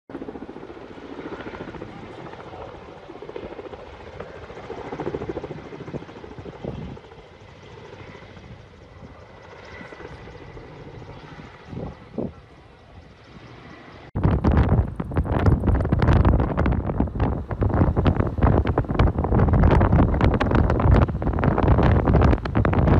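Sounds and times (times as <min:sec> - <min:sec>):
helicopter rotor beating: 0:00.1 - 0:22.9.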